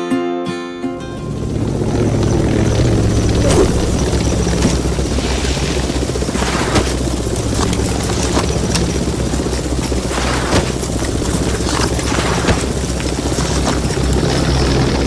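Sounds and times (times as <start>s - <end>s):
low hum: 0.9s - 15.0s.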